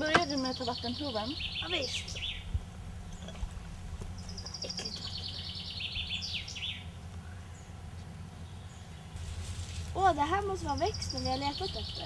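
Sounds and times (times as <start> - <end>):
songbird singing a trill: 0.0 - 9.2, 10.0 - 12.0
low background rumble: 0.0 - 12.0.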